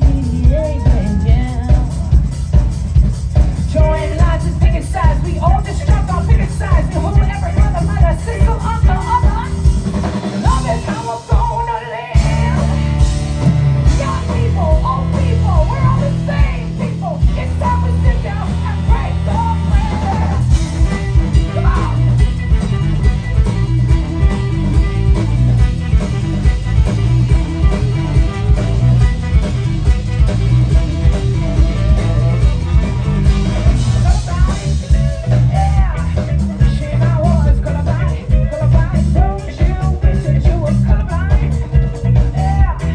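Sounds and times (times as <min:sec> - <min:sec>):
person singing: 0:00.0 - 0:02.6, 0:03.6 - 0:13.2, 0:13.8 - 0:42.9
live band playing: 0:00.0 - 0:42.9.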